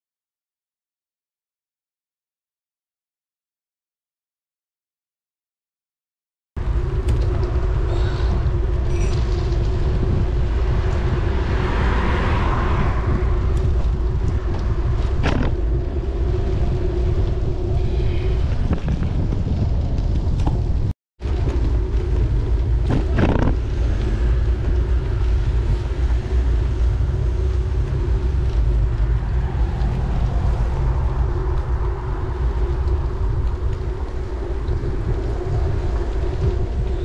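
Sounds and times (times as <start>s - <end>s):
bicycle tyres on wet tarmac: 6.6s - 37.0s
wind buffeting microphone: 6.6s - 37.0s.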